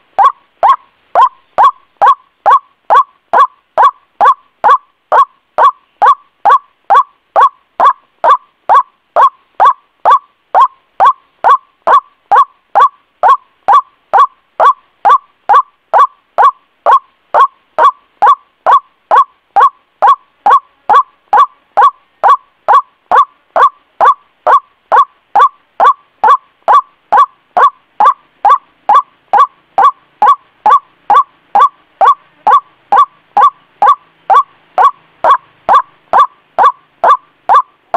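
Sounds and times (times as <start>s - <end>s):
waterhen calling: 0.0s - 37.9s.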